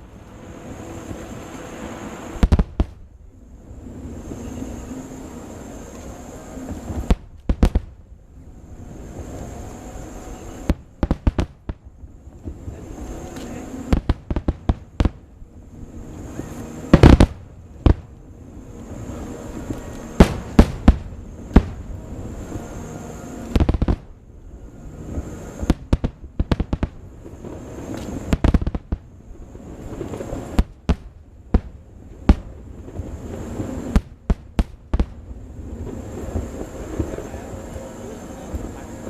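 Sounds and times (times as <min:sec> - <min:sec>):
fireworks bangs: 0:00.0 - 0:39.0
fireworks rumbling: 0:00.0 - 0:39.0.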